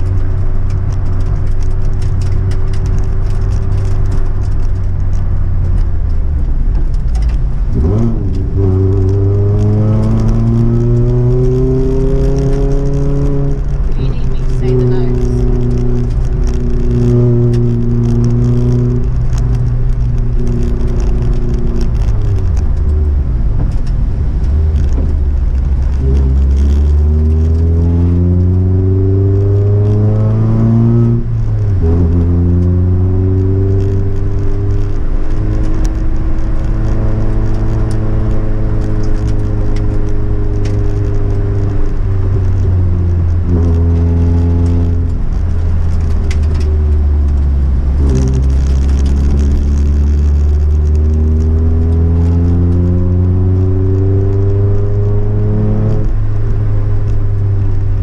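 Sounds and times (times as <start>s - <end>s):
car engine accelerating: 0.0s - 58.0s
light ticks and rattles: 0.0s - 58.0s.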